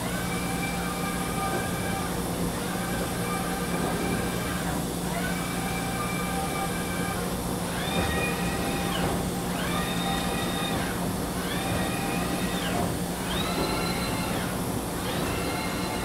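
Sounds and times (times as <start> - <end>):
grinder drive whine: 0.0 - 16.0
steady machine hum: 0.0 - 16.0.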